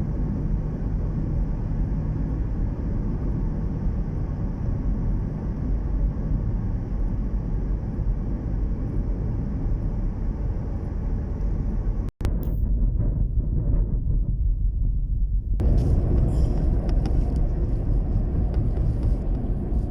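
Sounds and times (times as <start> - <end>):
steady low rumble: 0.0 - 19.9.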